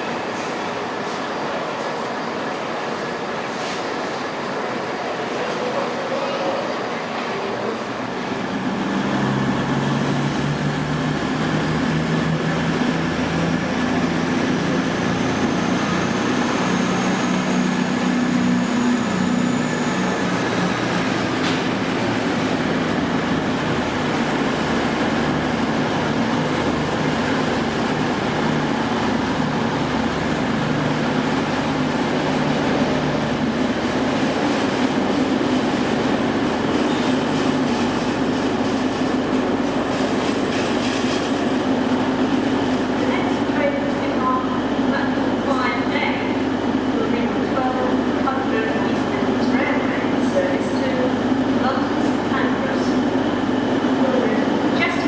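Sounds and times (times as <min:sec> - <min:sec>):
diesel train engine: 0:00.0 - 0:55.0.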